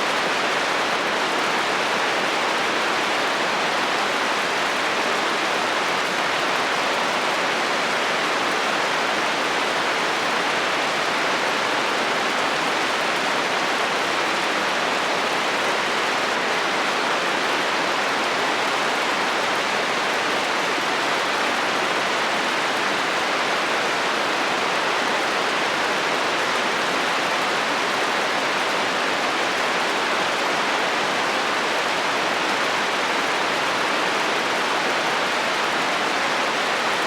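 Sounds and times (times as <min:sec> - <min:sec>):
heavy rain on a metal roof: 0:00.0 - 0:37.0.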